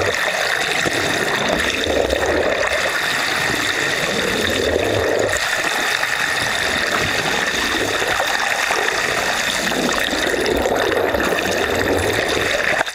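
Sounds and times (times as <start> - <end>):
water rushing and sloshing: 0.0 - 12.9.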